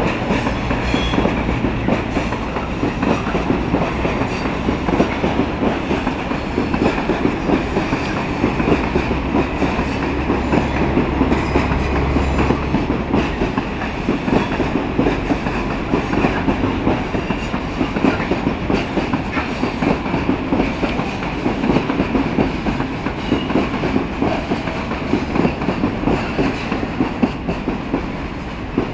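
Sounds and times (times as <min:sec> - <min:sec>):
freight train rolling past: 0:00.0 - 0:28.9.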